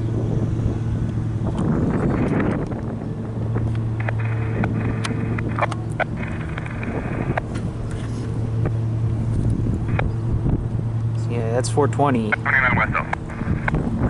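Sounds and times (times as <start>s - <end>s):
diesel locomotive drone: 0.0s - 14.0s.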